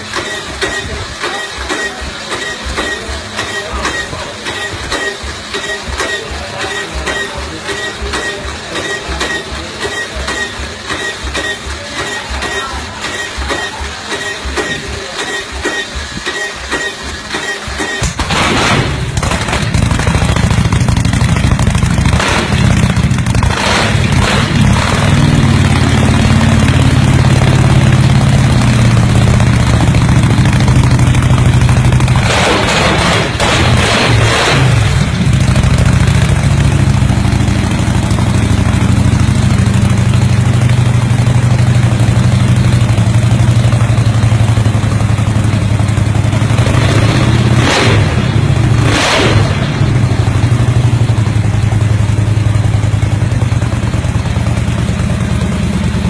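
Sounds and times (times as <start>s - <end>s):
motorcycle engine idling: 0.0s - 18.3s, 18.9s - 33.5s, 34.7s - 56.0s.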